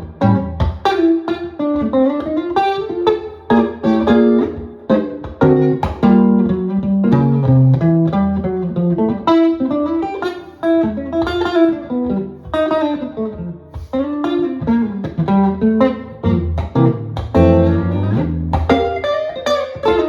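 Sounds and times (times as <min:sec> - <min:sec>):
jazz guitar playing: 0:00.0 - 0:20.0.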